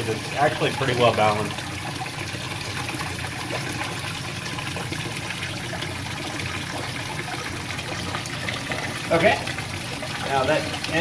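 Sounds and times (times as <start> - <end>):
water pouring into tank: 0.0 - 11.0.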